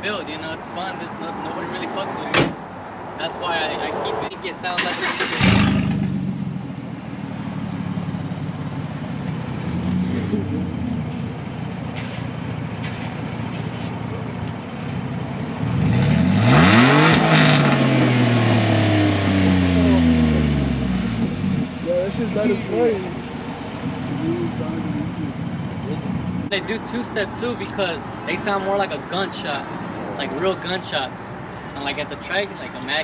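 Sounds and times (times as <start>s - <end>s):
truck engine idling and revving: 3.7s - 33.0s.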